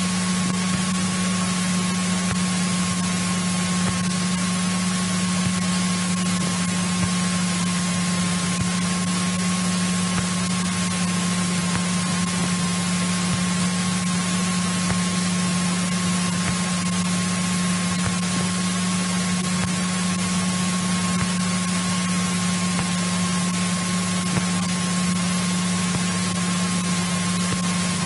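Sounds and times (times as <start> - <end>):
aircraft engine idling: 0.0 - 28.0
steady hiss: 0.0 - 28.0.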